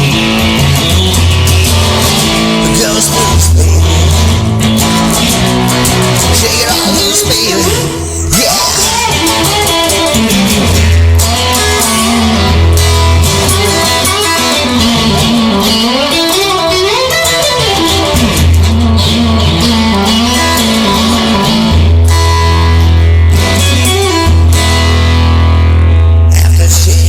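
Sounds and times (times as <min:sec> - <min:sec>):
low bass notes: 0:00.0 - 0:17.0, 0:17.6 - 0:27.0
blues guitar lead line: 0:00.0 - 0:27.0.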